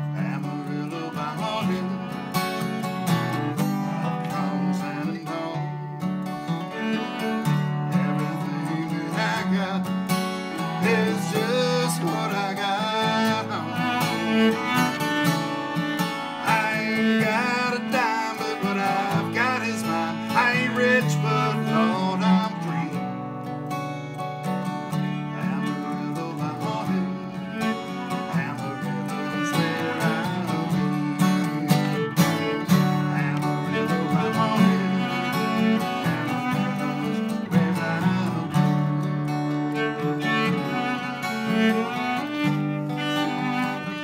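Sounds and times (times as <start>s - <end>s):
acoustic guitar strumming: 0.0s - 44.0s
bowed cello melody: 0.0s - 44.0s.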